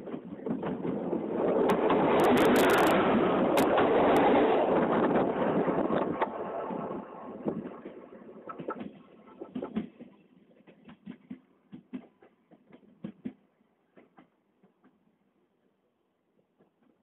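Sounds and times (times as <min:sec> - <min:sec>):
train wheels clicking over rail joints: 0:00.0 - 0:06.4, 0:07.6 - 0:15.1.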